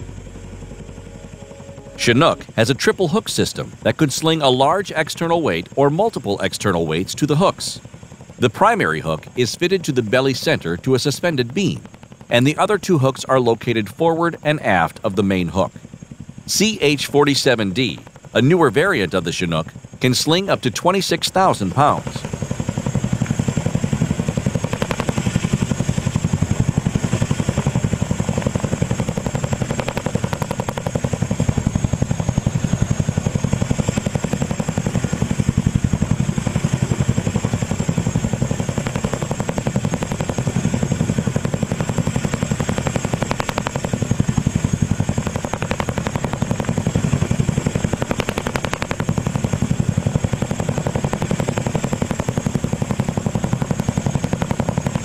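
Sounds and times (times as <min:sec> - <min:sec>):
helicopter rotors beating: 0:00.0 - 0:55.0
high engine whine: 0:00.0 - 0:55.0.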